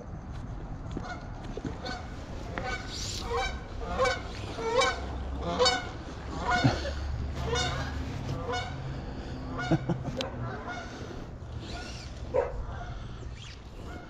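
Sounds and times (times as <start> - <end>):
goose honking: 1.8 - 13.2, 13.8 - 14.0.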